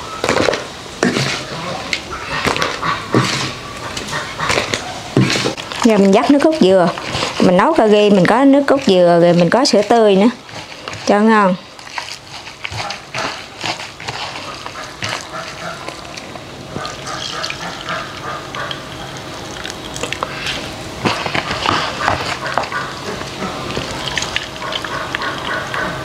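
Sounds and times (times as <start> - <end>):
wet coconut kneaded by hand: 0.0 - 26.0
liquid splashing and trickling: 2.5 - 26.0.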